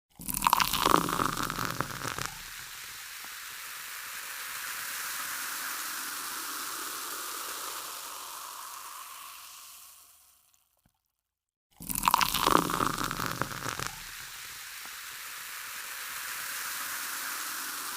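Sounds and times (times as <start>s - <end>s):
soda water fizzing: 0.2s - 10.6s, 11.8s - 17.9s.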